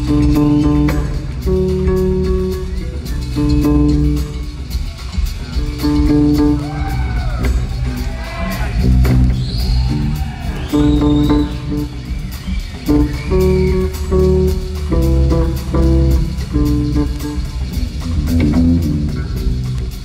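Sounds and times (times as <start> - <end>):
electric bass guitar solo: 0.0 - 4.8, 5.6 - 8.0, 8.7 - 12.1, 12.9 - 20.0.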